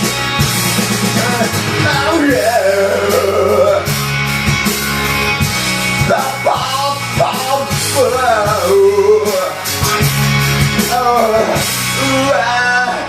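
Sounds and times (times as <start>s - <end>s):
rock song with singing: 0.0s - 13.0s.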